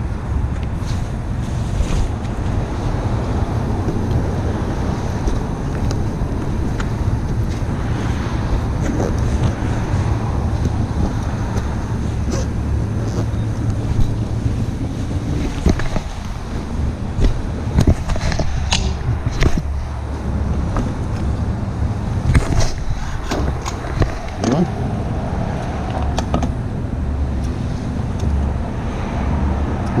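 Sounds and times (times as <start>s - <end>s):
motorcycle engine drone: 0.0s - 30.0s
wind buffeting microphone: 0.0s - 30.0s.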